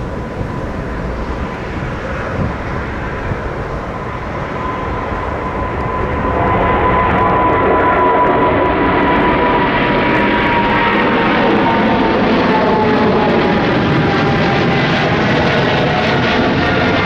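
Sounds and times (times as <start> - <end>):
jet engine roar with whine: 0.0 - 17.0.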